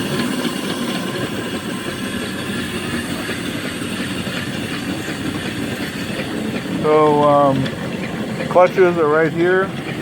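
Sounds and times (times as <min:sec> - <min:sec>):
steam engine exhaust beats: 0:00.0 - 0:10.0
mechanical clatter: 0:01.8 - 0:10.0.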